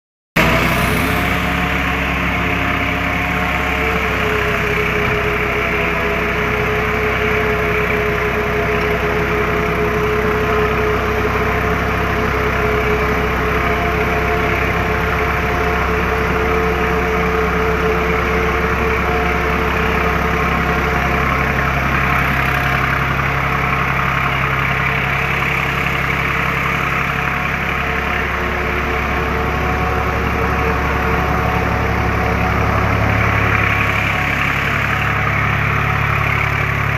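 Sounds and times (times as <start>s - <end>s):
feed mixer machine droning: 0.4s - 36.9s.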